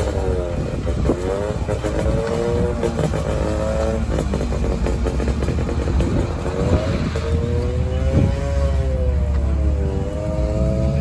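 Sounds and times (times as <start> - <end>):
small car engine revving: 0.0 - 11.0.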